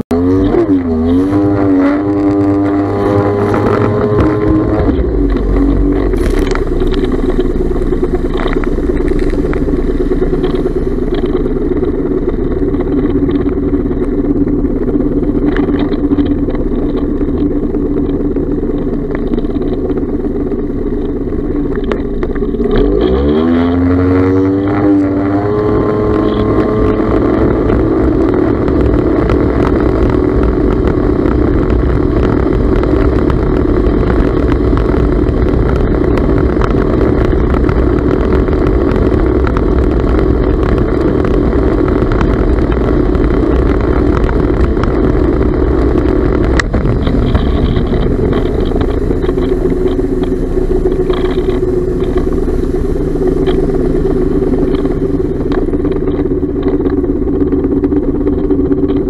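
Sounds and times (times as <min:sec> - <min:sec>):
jet ski engine running: 0:00.1 - 0:59.0.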